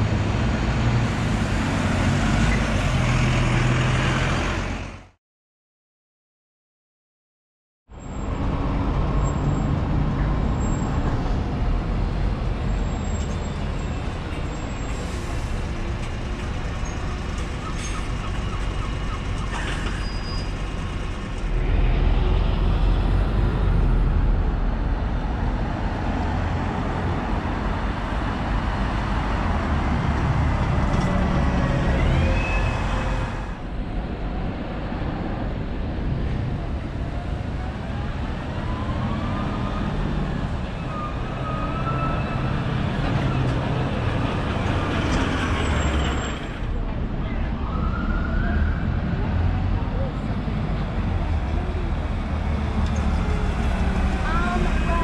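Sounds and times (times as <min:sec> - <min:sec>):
road traffic passing: 0:00.0 - 0:05.2, 0:07.9 - 0:55.0.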